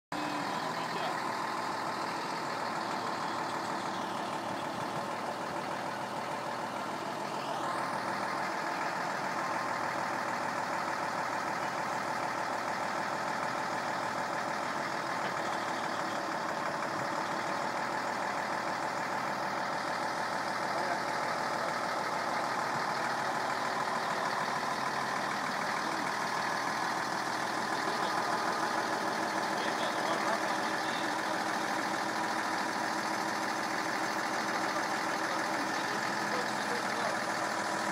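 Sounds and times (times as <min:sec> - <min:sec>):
diesel truck engine running: 0:00.1 - 0:37.9.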